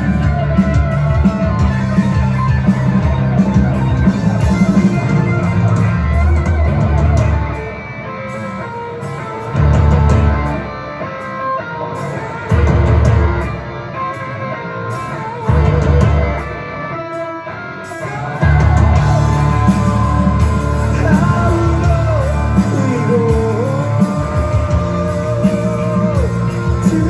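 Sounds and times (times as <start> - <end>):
heavy rock band playing: 0.0 - 27.0.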